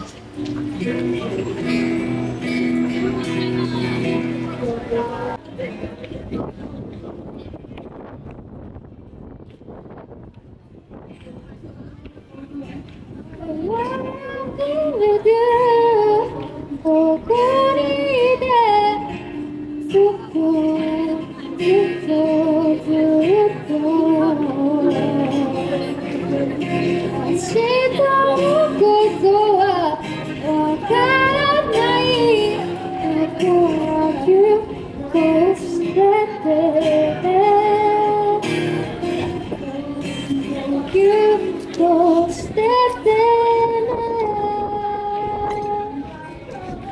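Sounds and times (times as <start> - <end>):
woman singing amplified: 0.2 - 5.8, 12.3 - 46.9.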